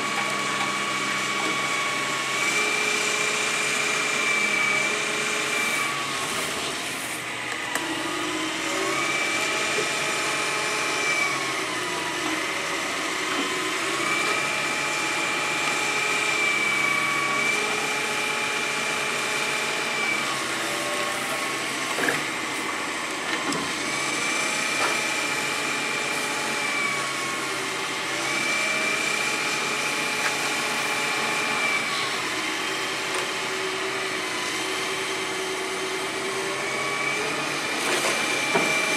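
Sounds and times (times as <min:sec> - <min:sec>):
excavator engine and hydraulic whine: 0:00.0 - 0:38.9.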